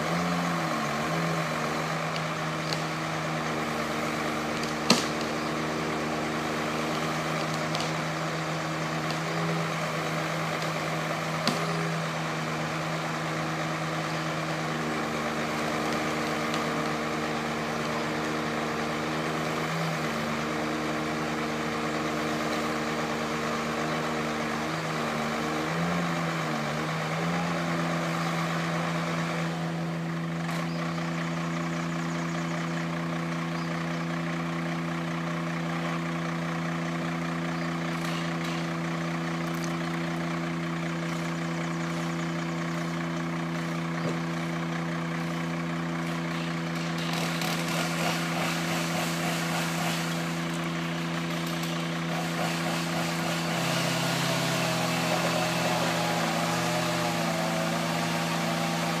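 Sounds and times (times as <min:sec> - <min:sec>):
truck engine droning: 0:00.0 - 0:59.0.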